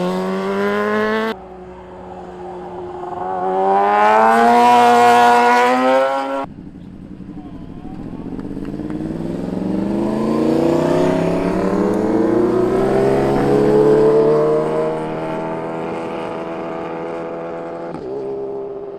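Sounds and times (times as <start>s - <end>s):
motorcycle engine accelerating past: 0.0s - 18.9s.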